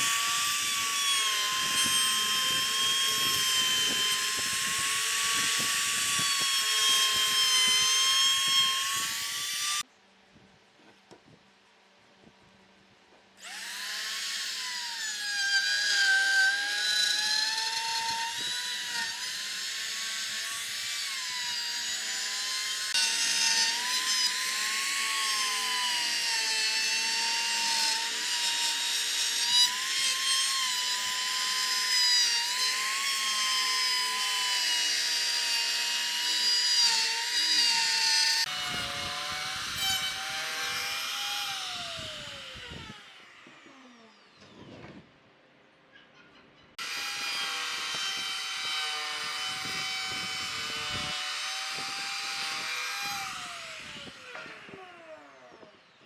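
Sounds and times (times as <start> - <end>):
power tool motor whining cutting wood: 0.0 - 9.8, 13.4 - 44.7, 46.8 - 56.0.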